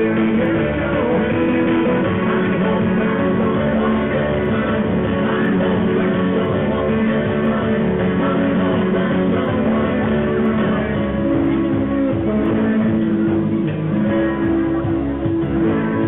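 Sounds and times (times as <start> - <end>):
live band music: 0.0 - 16.0
strummed acoustic guitar: 0.0 - 16.0.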